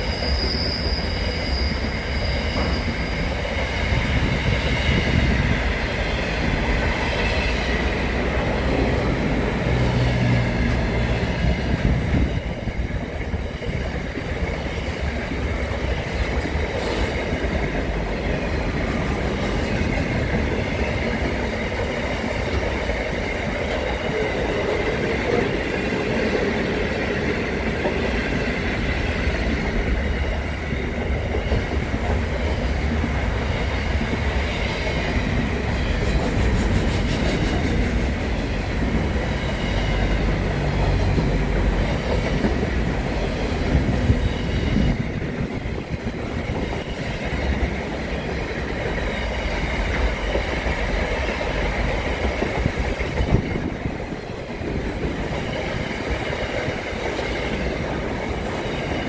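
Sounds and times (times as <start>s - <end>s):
freight train passing: 0.0s - 59.0s.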